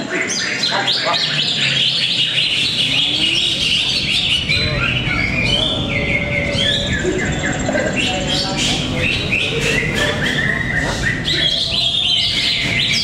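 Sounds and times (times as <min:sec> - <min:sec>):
chorus of birds singing: 0:00.0 - 0:13.0.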